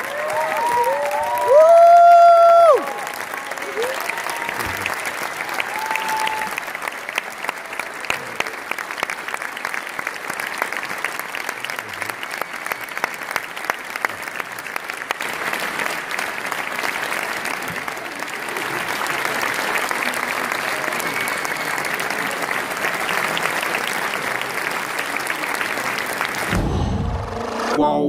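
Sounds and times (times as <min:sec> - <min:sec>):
audience applauding: 0:00.0 - 0:26.7.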